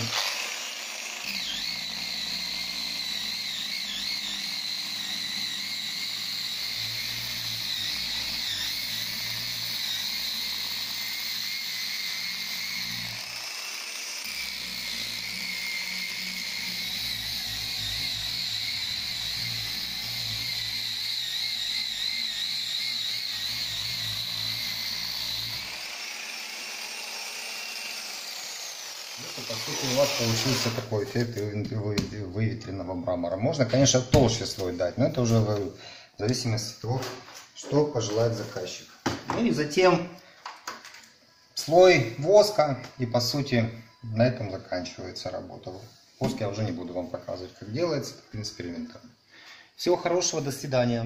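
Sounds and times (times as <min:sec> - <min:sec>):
angle grinder polishing whine: 0:00.0 - 0:31.6, 0:36.3 - 0:49.2.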